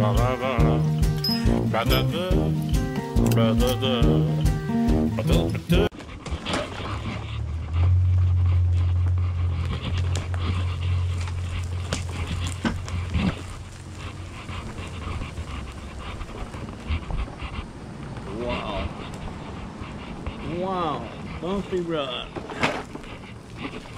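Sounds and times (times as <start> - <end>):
mobility scooter rumble: 0.0 - 23.9.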